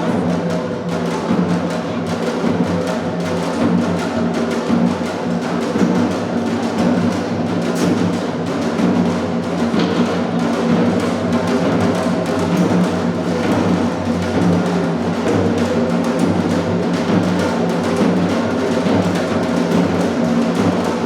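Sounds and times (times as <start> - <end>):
fast drumming: 0.0 - 21.0.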